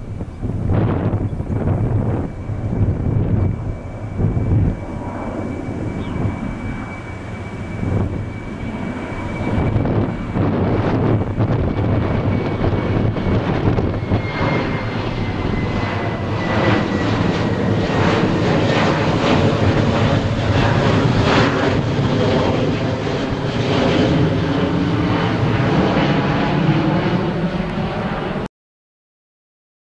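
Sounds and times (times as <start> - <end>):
jet engine rumble overhead: 0.0 - 28.5
jet fan whine: 0.0 - 28.5.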